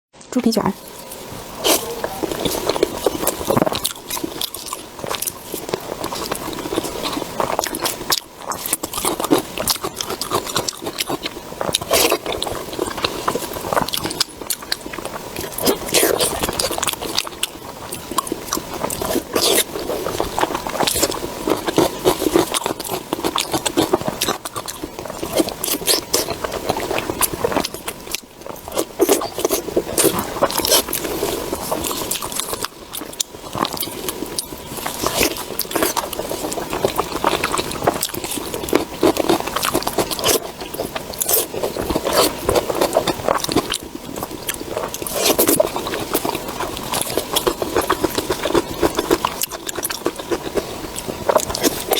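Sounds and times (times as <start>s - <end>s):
chewing and biting food: 0.9s - 51.9s.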